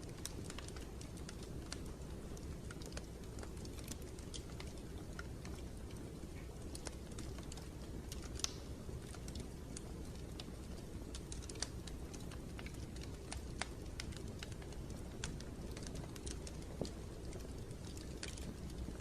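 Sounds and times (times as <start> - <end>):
sharp crackles and ticks: 0.0 - 19.0.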